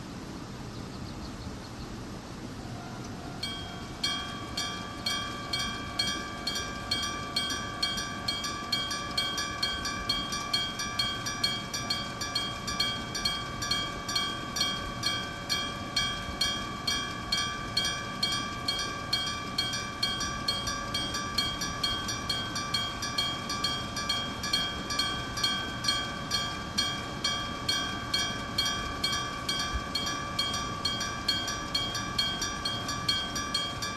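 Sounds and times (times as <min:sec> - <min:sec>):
level crossing bell ringing: 0:02.6 - 0:33.9.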